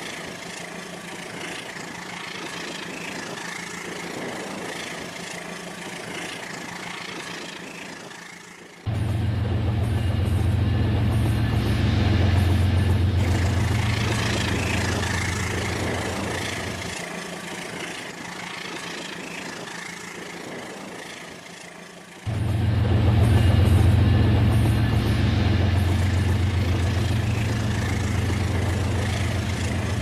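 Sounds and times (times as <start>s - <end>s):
toy train electric hum: 0.0s - 30.0s.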